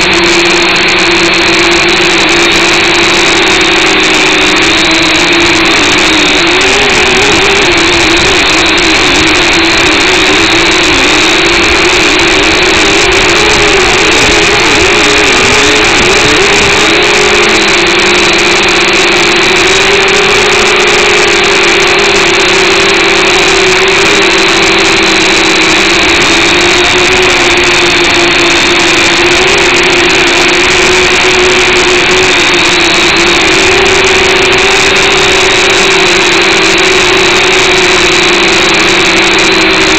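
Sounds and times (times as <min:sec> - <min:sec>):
quadcopter motors buzzing: 0:00.0 - 0:39.9.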